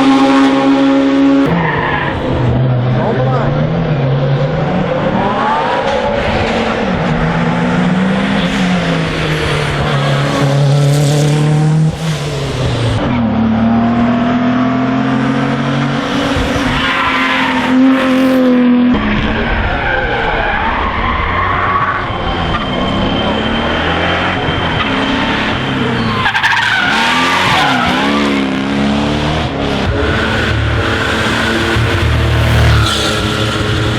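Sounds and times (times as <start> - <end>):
racing car engine at full throttle: 0.0 - 33.9.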